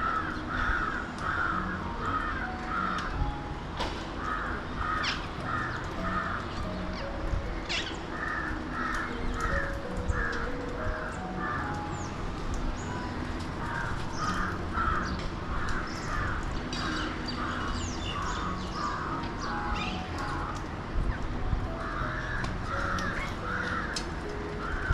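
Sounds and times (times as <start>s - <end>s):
birds harsh rasping calls: 0.0s - 24.9s.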